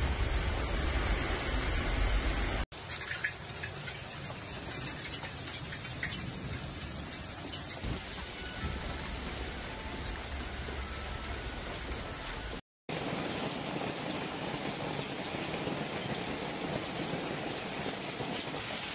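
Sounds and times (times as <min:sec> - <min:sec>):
hail and heavy rain pouring: 0:02.8 - 0:18.9
hailstones ticking on hard surfaces: 0:02.8 - 0:18.9.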